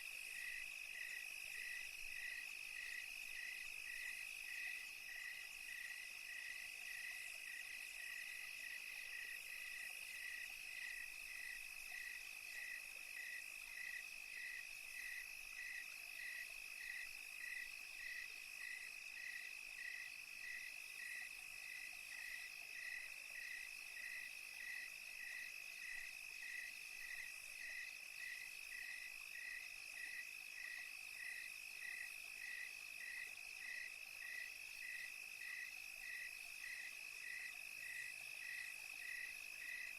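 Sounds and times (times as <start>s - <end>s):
cricket chirping: 0.0s - 39.9s
high insect hiss: 0.2s - 39.9s.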